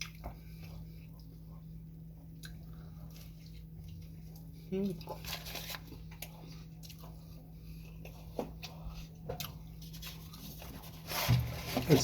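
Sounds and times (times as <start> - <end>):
chewing sandwich: 0.0 - 11.1.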